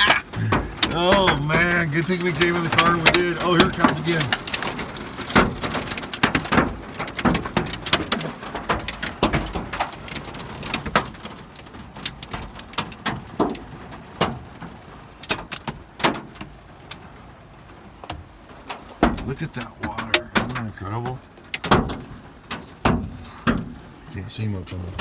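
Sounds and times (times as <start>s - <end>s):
hailstones pelting car roof: 0.0s - 25.0s.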